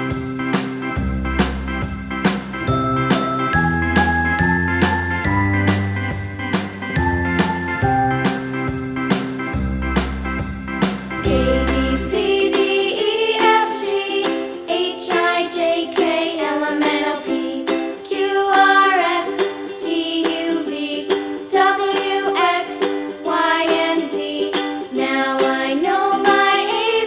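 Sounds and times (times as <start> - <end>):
plucked string music: 0.0 - 27.0.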